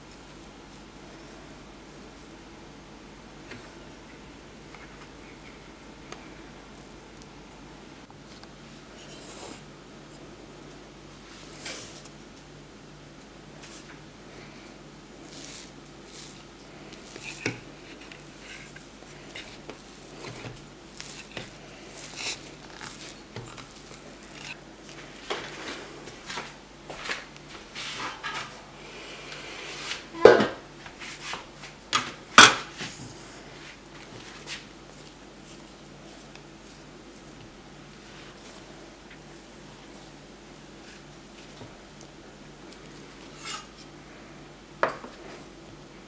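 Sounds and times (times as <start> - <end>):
dough squishing: 3.3 - 12.2, 13.2 - 28.2, 30.8 - 46.0.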